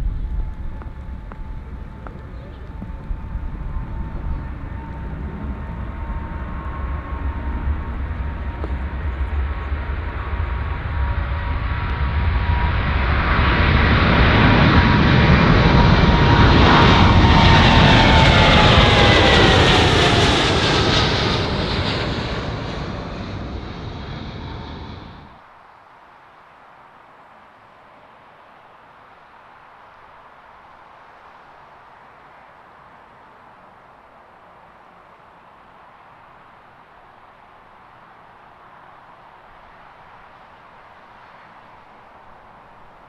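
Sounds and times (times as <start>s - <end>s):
jet airliner passing: 0.0s - 25.4s, 27.7s - 43.0s.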